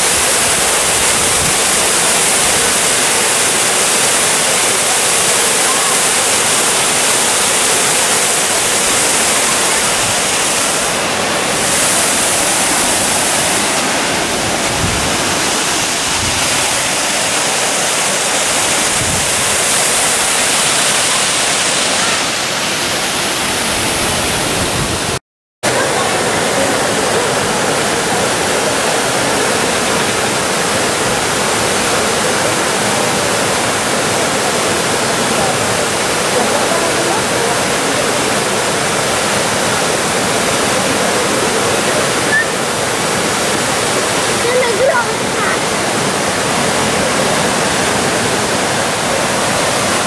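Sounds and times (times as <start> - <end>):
rush of falling water: 0.0 - 50.0.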